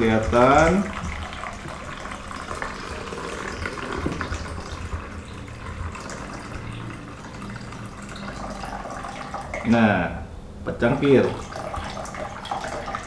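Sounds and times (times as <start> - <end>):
water pouring into plastic tank: 0.0 - 9.8, 10.9 - 13.0.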